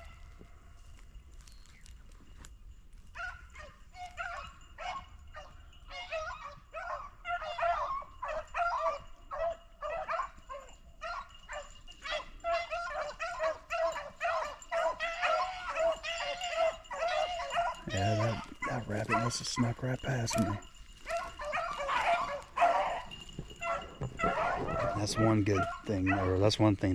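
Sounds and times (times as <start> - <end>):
dogs baying: 3.2 - 26.7.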